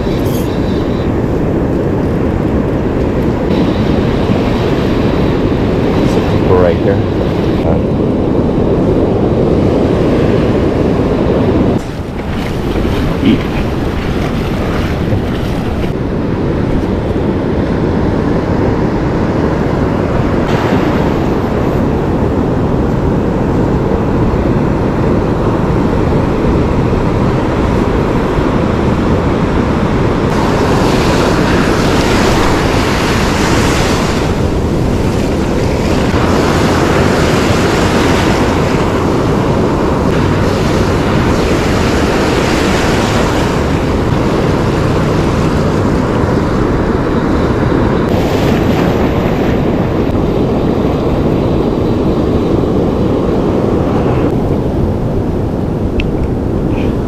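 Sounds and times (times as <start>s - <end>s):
surf washing over sand: 0.0s - 7.7s, 8.4s - 24.3s, 29.9s - 57.0s
wind buffeting microphone: 0.0s - 57.0s.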